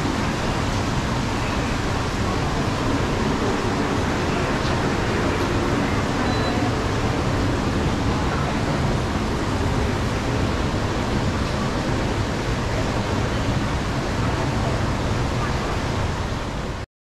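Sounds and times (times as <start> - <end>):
indistinct crowd chatter: 0.0 - 16.8.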